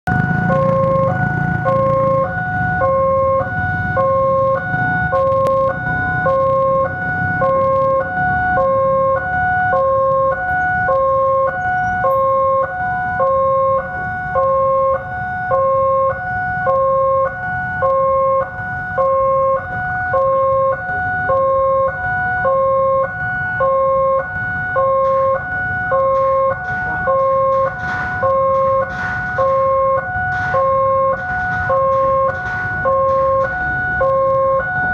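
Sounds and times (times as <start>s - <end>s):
low rumble of traffic: 0.0s - 34.9s
level crossing two-tone alarm: 0.1s - 34.9s.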